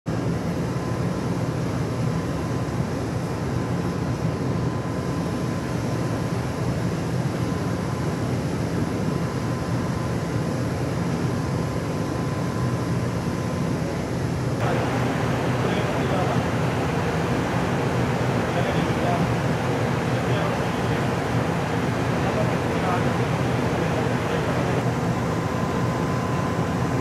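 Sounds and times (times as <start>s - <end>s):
faint constant whine: 0.1s - 27.0s
machinery low drone: 0.1s - 27.0s.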